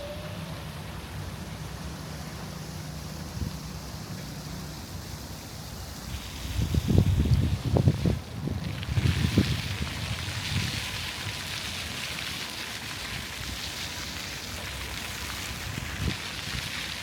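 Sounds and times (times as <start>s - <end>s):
falling water hiss: 0.0s - 17.0s.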